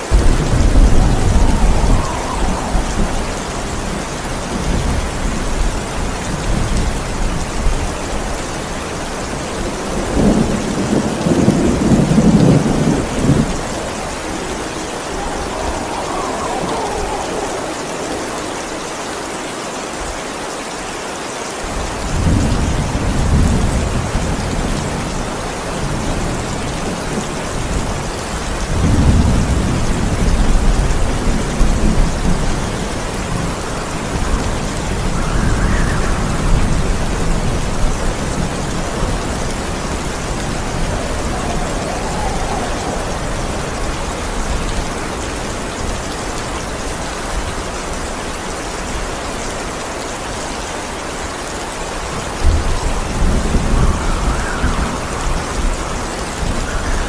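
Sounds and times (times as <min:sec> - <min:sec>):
rolling thunder: 0:00.0 - 0:19.5, 0:21.7 - 0:47.6, 0:52.2 - 0:57.0
heavy rain: 0:00.0 - 0:57.0.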